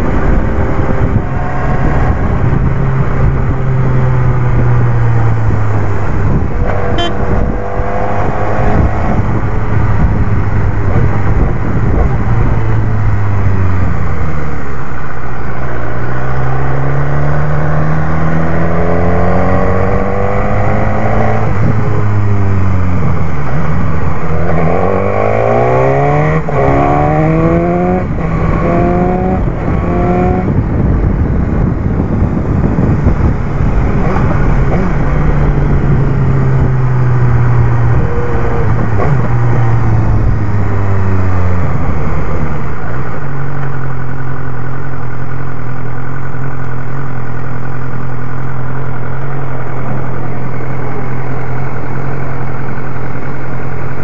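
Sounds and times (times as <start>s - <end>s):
wind rushing over microphone: 0.0s - 44.2s
motorcycle engine revving: 0.0s - 53.9s.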